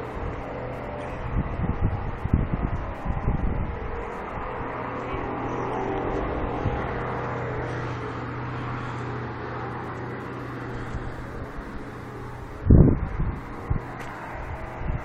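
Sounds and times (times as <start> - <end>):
distant mechanical drone: 0.0 - 15.0.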